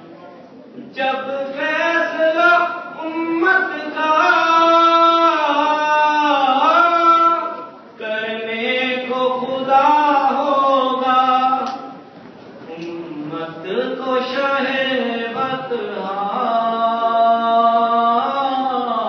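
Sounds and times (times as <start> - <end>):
man singing unaccompanied: 0.8 - 19.0.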